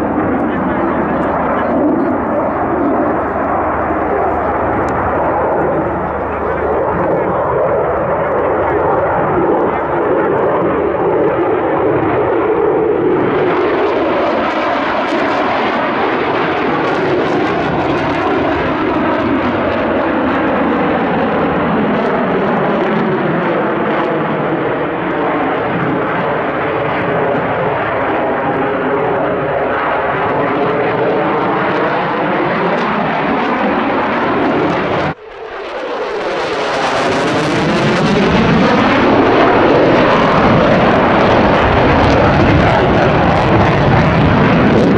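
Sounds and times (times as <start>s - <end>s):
fighter jet engine roar: 0.0s - 44.9s.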